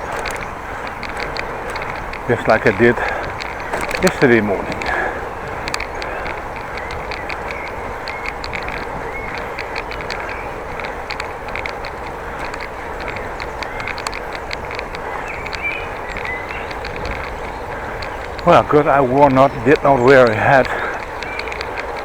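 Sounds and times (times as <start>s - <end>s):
bicycle riding rushing noise: 0.0s - 22.0s.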